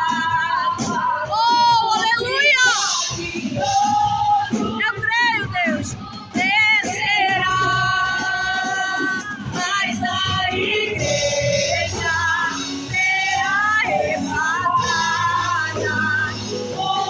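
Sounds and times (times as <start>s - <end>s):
band playing worship song: 0.0s - 17.0s
person singing lead vocal: 0.0s - 17.0s.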